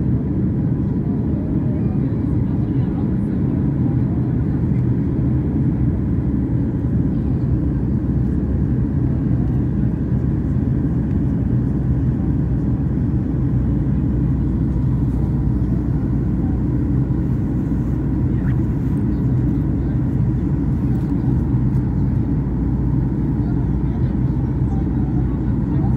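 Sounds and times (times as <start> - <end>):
airliner cabin engine roar: 0.0 - 25.9.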